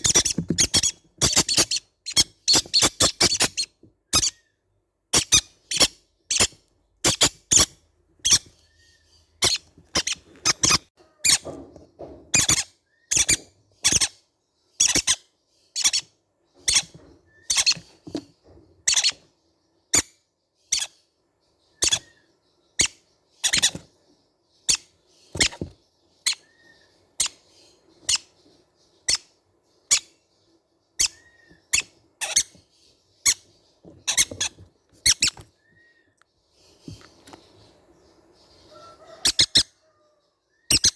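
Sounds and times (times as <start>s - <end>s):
parrot chicks squeaking: 0.0s - 21.1s, 21.7s - 24.0s, 24.6s - 40.9s.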